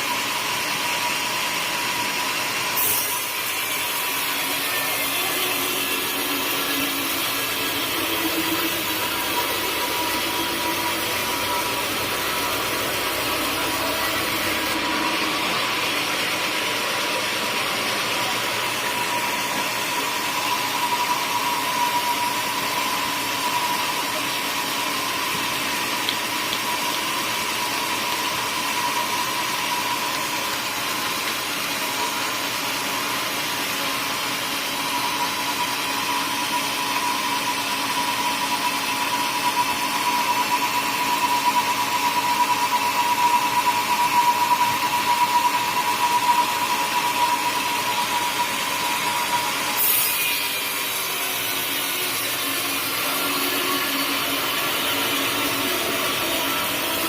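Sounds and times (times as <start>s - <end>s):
high machine whine: 0.0s - 57.0s
sawmill saw cutting log: 0.5s - 57.0s.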